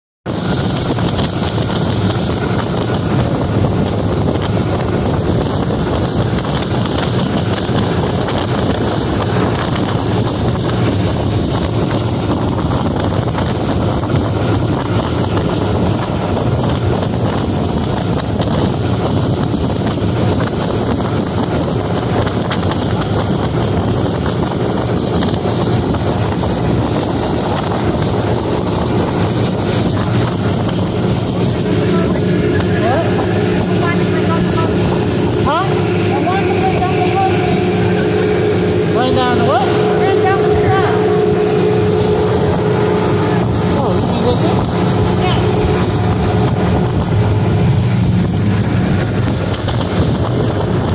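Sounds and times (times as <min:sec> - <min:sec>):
motorboat engine drone: 0:00.2 - 0:50.9
water rushing past hull: 0:00.2 - 0:50.9
wind buffeting microphone: 0:00.2 - 0:50.9.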